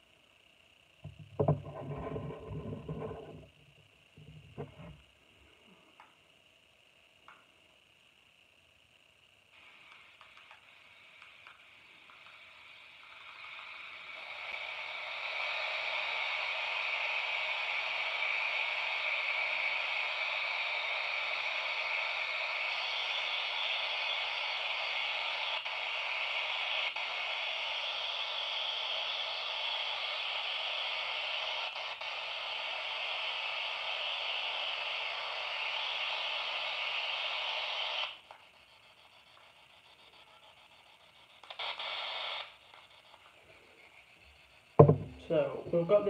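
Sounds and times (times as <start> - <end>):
radio static hiss: 0.0 - 8.4, 9.0 - 46.0.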